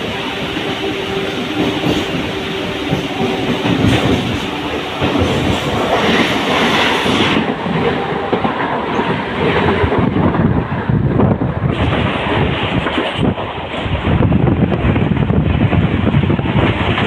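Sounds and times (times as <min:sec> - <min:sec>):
train wheels clattering over rails: 0:00.0 - 0:10.6, 0:11.6 - 0:17.0
train rumble: 0:00.0 - 0:17.0.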